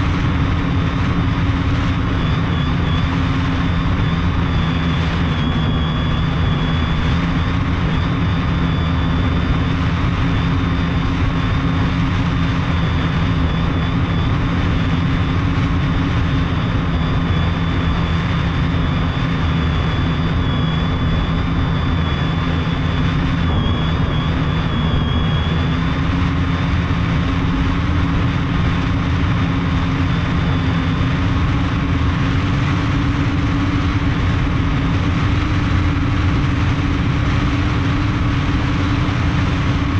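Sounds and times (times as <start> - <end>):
drone motors humming: 0.0 - 39.9
high whine: 0.0 - 39.9
wind noise: 0.0 - 39.9.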